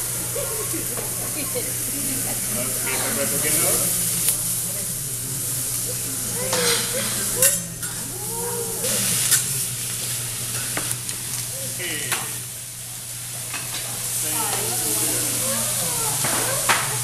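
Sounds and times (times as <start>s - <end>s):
vegetables sizzling on a griddle: 0.0s - 17.0s.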